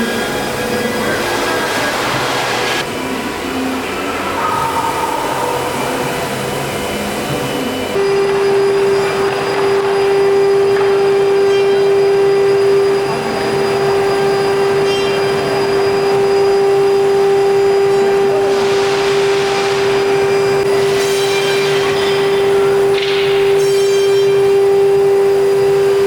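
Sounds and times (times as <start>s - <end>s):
rushing vacuum-like noise: 0.0s - 23.6s
cnc router spindle whine: 0.0s - 26.0s.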